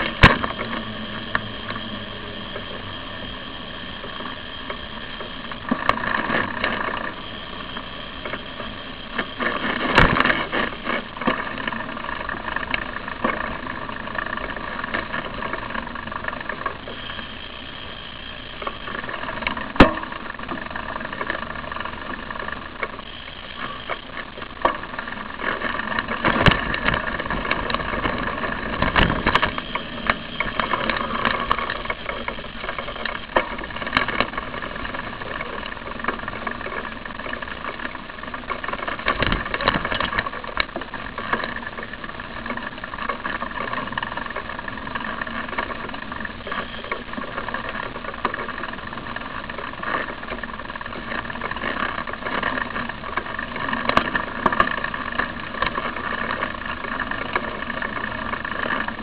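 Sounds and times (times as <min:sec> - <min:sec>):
car engines idling: 0:00.0 - 0:59.0.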